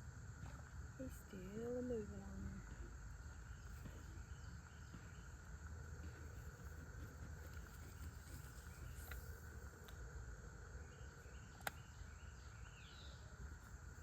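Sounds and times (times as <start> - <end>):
insect chirps: 0.0 - 14.0
insect drone: 0.0 - 14.0.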